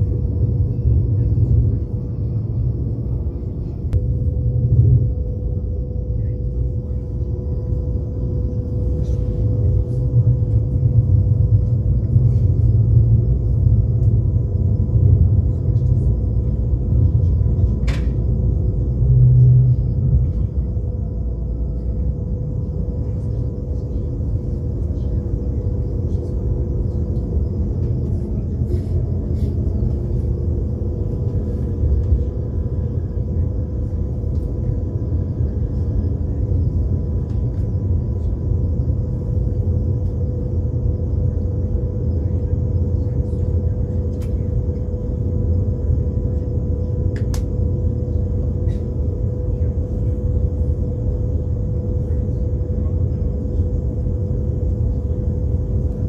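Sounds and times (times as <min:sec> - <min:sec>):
constant hum: 0:00.0 - 0:56.0
train rumble from inside carriage: 0:00.0 - 0:56.0.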